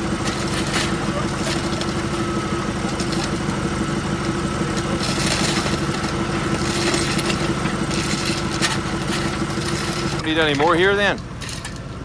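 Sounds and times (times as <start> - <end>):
farm machine engine running: 0.0 - 12.0.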